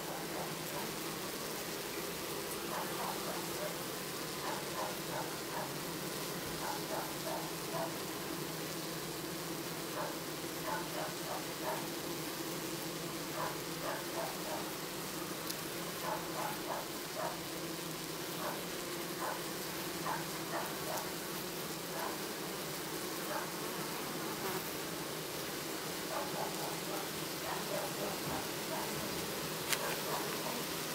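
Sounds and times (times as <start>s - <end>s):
honeybees buzzing: 0.0s - 30.9s.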